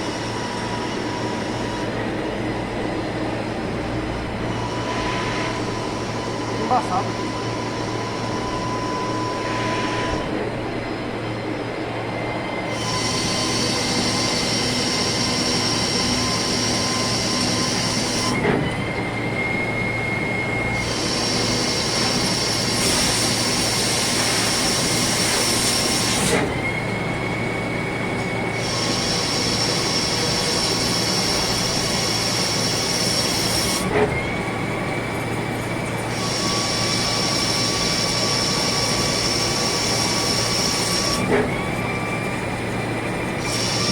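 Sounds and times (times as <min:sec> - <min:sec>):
lathe whine with high hiss: 0:00.0 - 0:10.6, 0:11.3 - 0:43.9.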